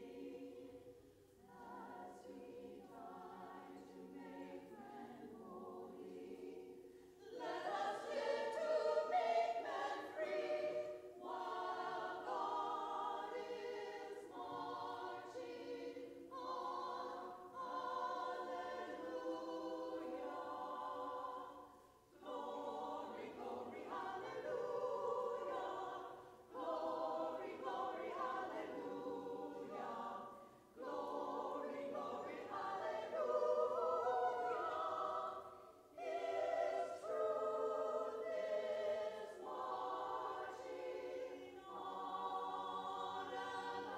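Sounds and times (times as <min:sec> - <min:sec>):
women's choir singing: 0:00.0 - 0:43.9.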